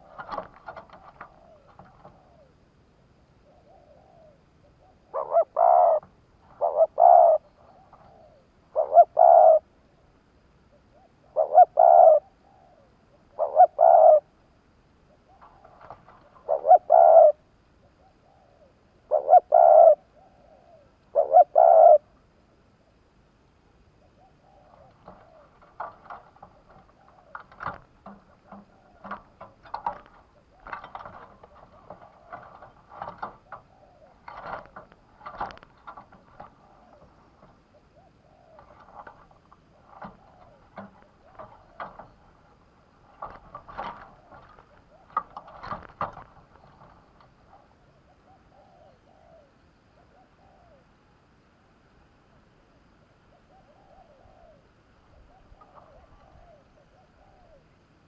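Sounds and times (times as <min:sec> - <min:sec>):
dove cooing: 0:00.0 - 0:02.6, 0:03.3 - 0:10.1, 0:10.7 - 0:14.4, 0:15.0 - 0:22.2, 0:23.9 - 0:51.0, 0:53.2 - 0:58.0.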